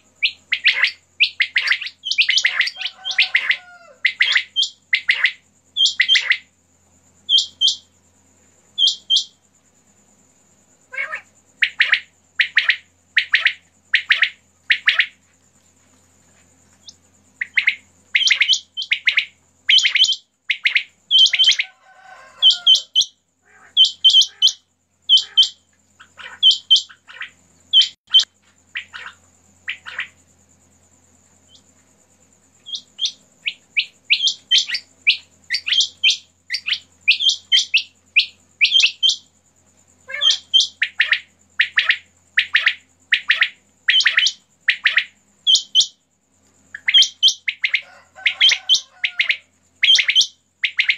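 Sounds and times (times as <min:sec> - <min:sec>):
quails calling: 0:00.0 - 0:06.5, 0:07.3 - 0:07.9, 0:08.8 - 0:09.3, 0:10.9 - 0:15.2, 0:16.8 - 0:30.2, 0:32.6 - 0:39.3, 0:40.0 - 0:46.0, 0:46.7 - 0:50.9.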